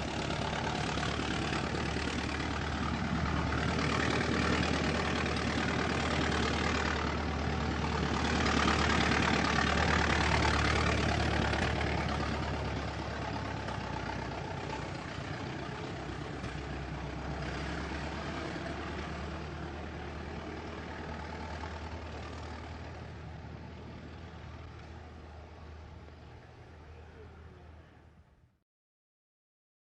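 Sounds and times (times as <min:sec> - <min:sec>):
old car engine running: 0:00.0 - 0:28.0.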